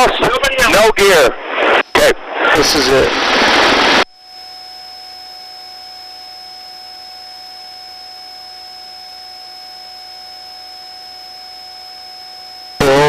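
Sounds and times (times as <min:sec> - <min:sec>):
faint radio hiss: 0:00.0 - 0:13.0
open-mic noise burst: 0:00.0 - 0:13.0
electronic tones: 0:01.8 - 0:13.0.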